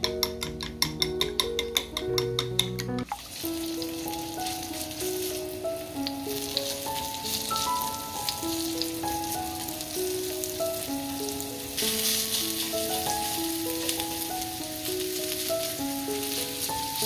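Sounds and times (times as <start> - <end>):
background music: 0.0 - 17.0
potato sizzling in oil: 3.0 - 17.0.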